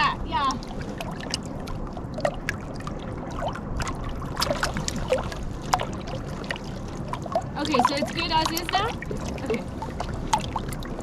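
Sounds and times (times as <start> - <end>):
steady low rumble: 0.0 - 11.0
water lapping: 0.0 - 11.0.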